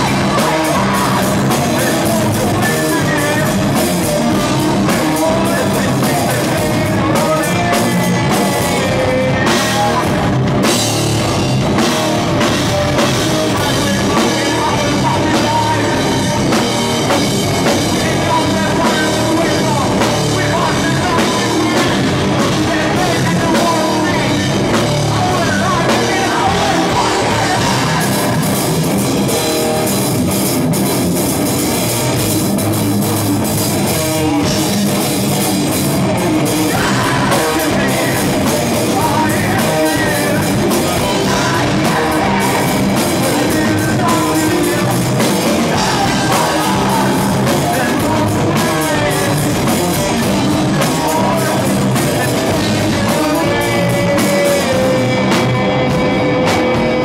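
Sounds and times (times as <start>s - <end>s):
person singing into microphone: 0.0s - 10.8s, 11.8s - 29.3s, 36.1s - 57.0s
drum kit: 0.0s - 57.0s
electric guitars: 0.0s - 57.0s.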